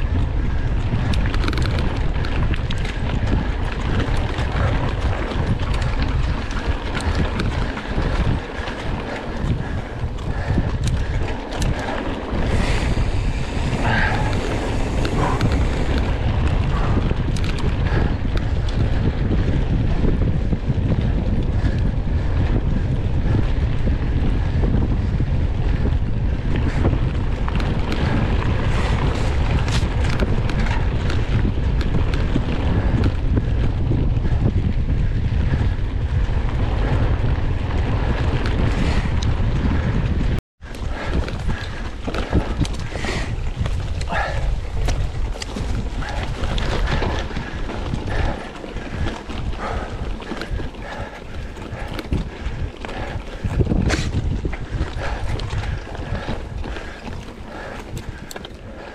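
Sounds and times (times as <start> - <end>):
wind rumble on microphone: 0.0 - 58.9.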